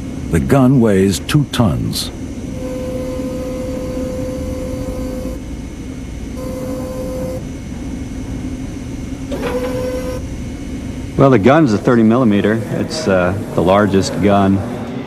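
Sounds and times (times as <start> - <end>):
mechanical whine: 0.0 - 15.0
steady mechanical hum: 0.0 - 15.0.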